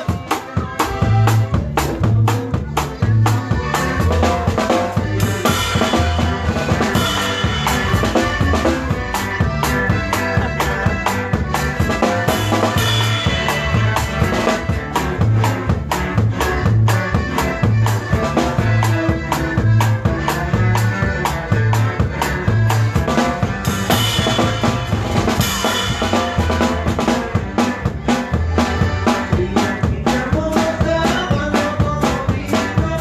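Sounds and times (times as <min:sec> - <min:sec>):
bass alternating notes: 0:00.0 - 0:33.0
drum kit: 0:00.0 - 0:33.0
live band music: 0:00.0 - 0:33.0.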